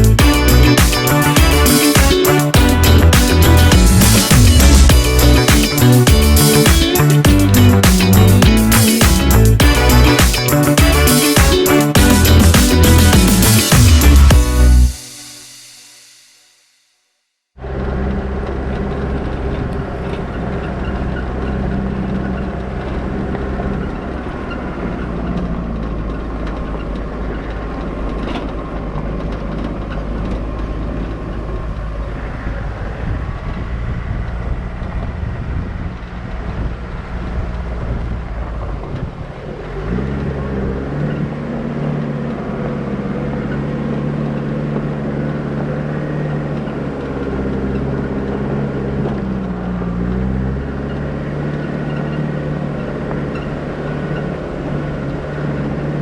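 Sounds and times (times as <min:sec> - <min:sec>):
vehicle engine running: 0:00.0 - 0:15.1, 0:17.6 - 0:56.0.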